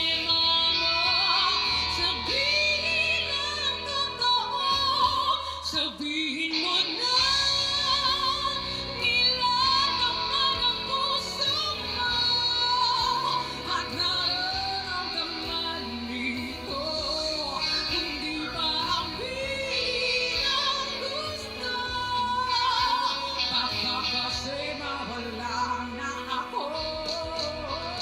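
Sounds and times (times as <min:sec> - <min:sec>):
band accompaniment: 0:00.0 - 0:28.0
woman singing slow ballad: 0:00.0 - 0:28.0.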